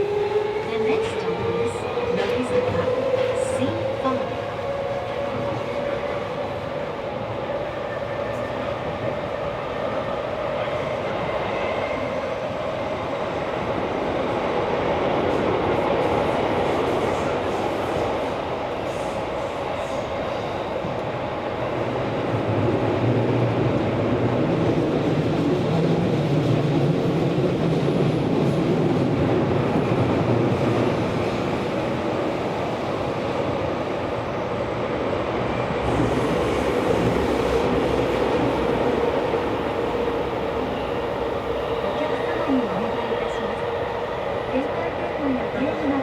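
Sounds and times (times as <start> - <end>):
subway train wheels rumbling on rail: 0.0 - 46.0.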